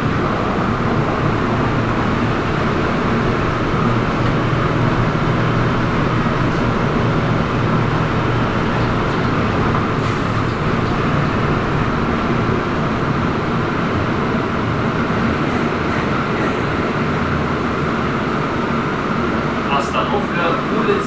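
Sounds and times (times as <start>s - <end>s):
trolleybus running rumble: 0.0s - 21.0s.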